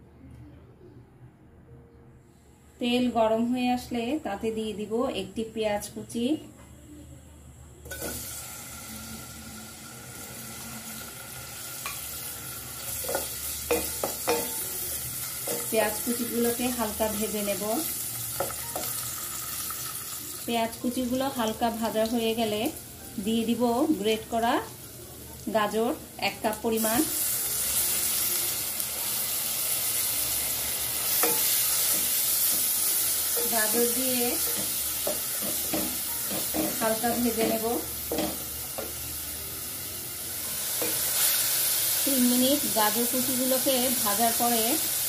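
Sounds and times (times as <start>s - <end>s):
onion sizzling in hot oil: 7.8s - 45.0s.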